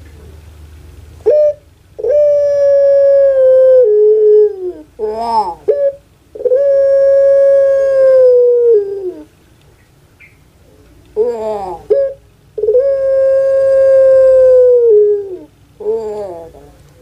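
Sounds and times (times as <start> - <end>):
dove calling: 1.2 - 17.0.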